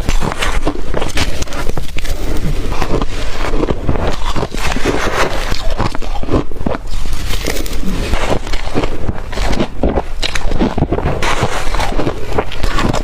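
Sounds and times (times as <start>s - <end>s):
chewing crushed ice: 0.0s - 13.0s.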